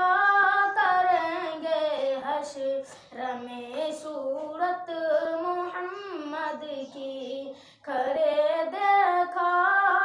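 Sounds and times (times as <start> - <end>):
boy singing unaccompanied: 0.0 - 10.0.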